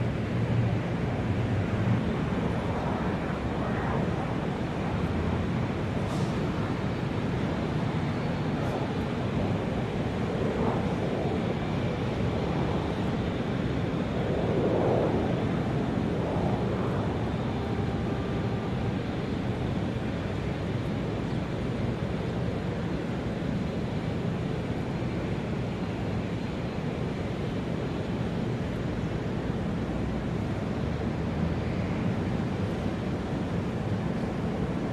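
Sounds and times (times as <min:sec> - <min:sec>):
steady airport rumble: 0:00.0 - 0:34.9.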